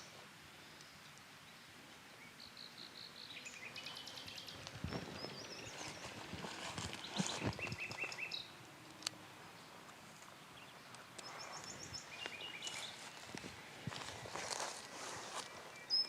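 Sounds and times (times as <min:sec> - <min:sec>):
birds chirping: 0:00.0 - 0:16.0
outdoor ambience: 0:00.0 - 0:16.0.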